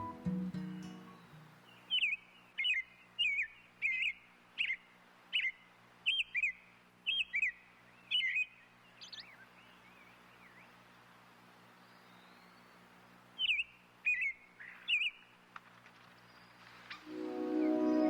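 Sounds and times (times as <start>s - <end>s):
bird chirping: 0.0s - 10.8s, 11.8s - 15.4s, 16.1s - 18.0s.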